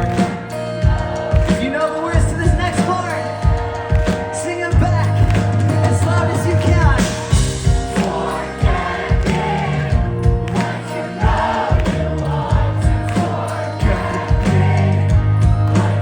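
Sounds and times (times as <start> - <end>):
drum beat: 0.0 - 16.0
live pop-punk band: 0.0 - 16.0.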